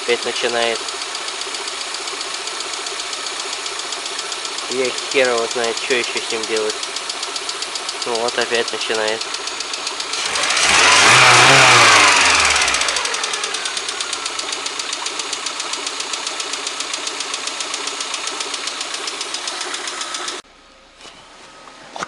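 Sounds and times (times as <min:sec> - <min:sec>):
car engine revving and idling: 0:00.0 - 0:20.4
rapid engine knock: 0:00.1 - 0:20.4.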